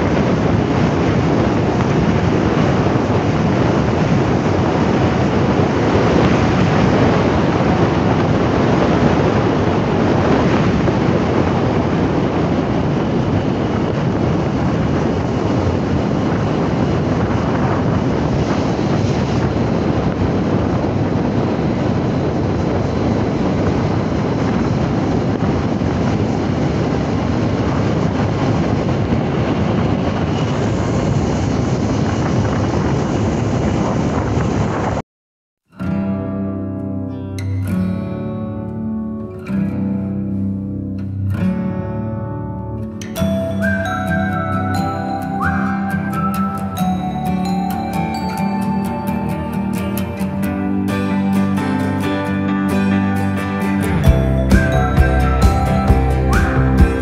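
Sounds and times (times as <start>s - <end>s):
wind buffeting microphone: 0.0s - 35.0s, 41.9s - 57.0s.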